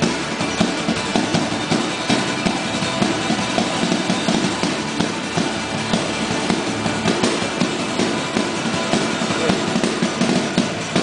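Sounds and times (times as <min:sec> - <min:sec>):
dense music with heavy bass: 0:00.0 - 0:11.0.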